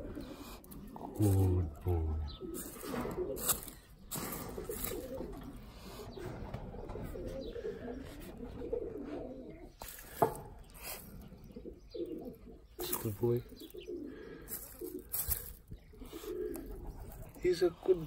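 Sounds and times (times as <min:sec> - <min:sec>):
dove cooing: 0:00.0 - 0:17.6.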